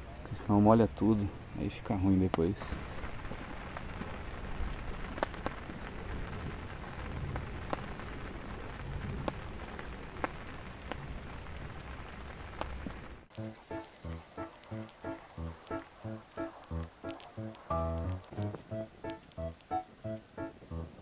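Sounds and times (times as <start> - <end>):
steady rain: 0.0 - 21.0
raindrops ticking: 1.8 - 21.0.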